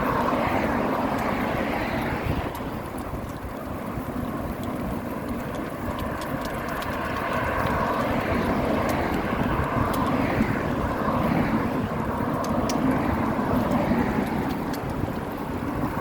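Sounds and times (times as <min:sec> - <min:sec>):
wind rushing: 0:00.0 - 0:04.0, 0:07.2 - 0:16.0
bicycle road noise: 0:00.0 - 0:16.0.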